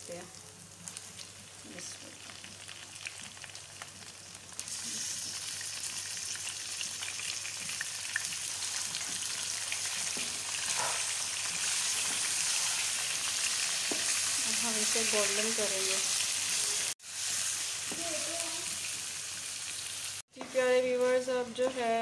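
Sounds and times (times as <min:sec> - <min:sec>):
chicken sizzling and crackling in oil: 0:00.0 - 0:22.0.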